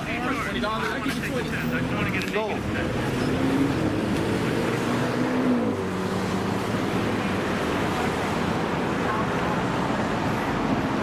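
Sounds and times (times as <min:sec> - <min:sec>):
road traffic noise: 0:00.0 - 0:11.0
vehicle engine: 0:00.0 - 0:11.0.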